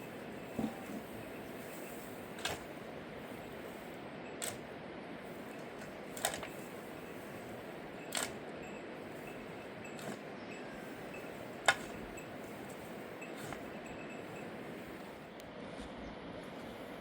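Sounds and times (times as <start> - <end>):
steady background hiss: 0.0 - 15.5.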